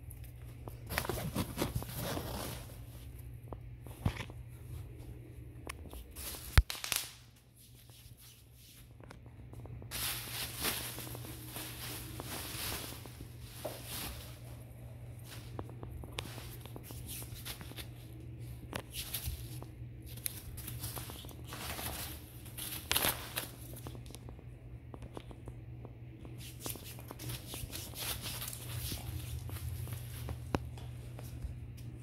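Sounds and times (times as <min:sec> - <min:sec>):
packing peanuts and bubble wrap crinkling: 0:00.1 - 0:03.2, 0:05.7 - 0:25.4, 0:26.3 - 0:31.4.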